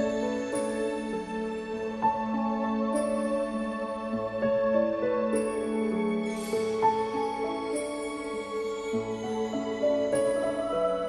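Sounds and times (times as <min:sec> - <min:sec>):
gentle new-age music: 0:00.0 - 0:11.0.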